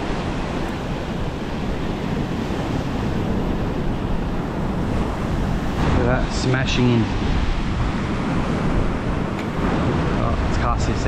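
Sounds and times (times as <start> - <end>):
surf washing against rocks: 0.0 - 11.0
wind buffeting microphone: 0.0 - 11.0.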